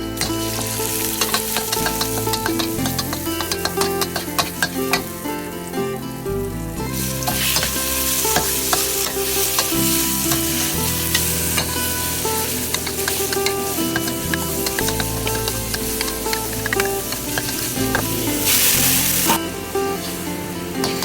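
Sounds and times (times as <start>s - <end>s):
background music: 0.0s - 21.0s
food sizzling in a pan: 0.0s - 21.0s.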